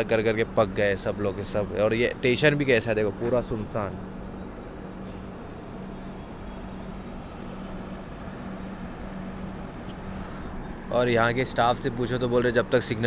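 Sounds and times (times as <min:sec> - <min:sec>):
faint high pulsing chirp: 0:00.0 - 0:12.2
train hum and hiss: 0:00.0 - 0:13.0.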